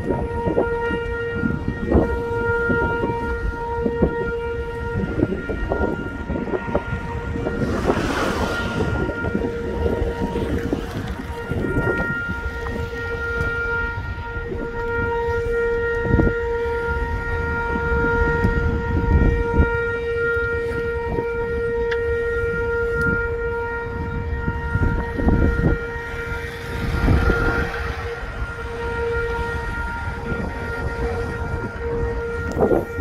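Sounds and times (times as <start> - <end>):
gusty low rumbling: 0.0 - 33.0
horn holding steady note: 0.0 - 33.0.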